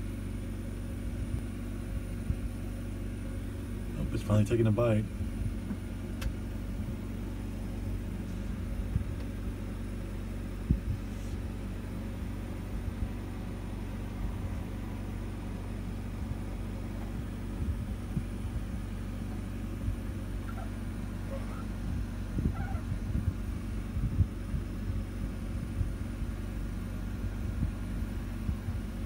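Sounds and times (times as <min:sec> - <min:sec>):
machinery humming: 0:00.0 - 0:29.0.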